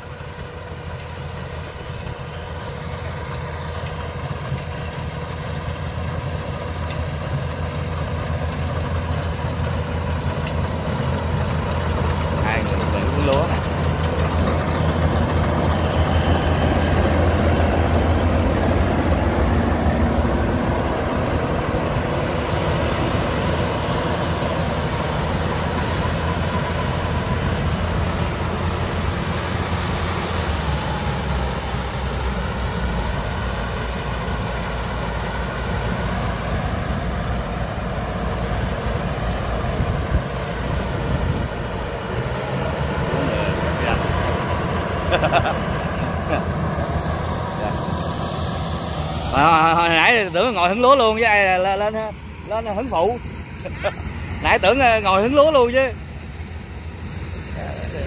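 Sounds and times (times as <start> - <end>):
diesel engine humming: 0.0 - 58.0
clatter of harvester threshing: 0.9 - 58.0.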